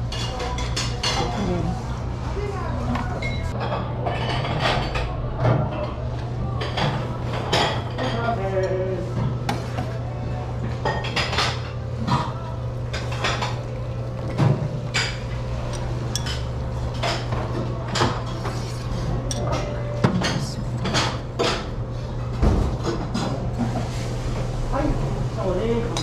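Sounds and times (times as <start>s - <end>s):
dishes and utensils clinking: 0.0s - 1.6s, 3.1s - 6.0s, 6.6s - 10.0s, 10.8s - 24.0s.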